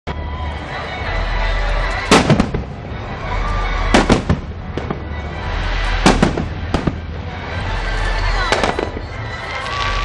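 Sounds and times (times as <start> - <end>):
fireworks bursting bangs: 1.8 - 10.0.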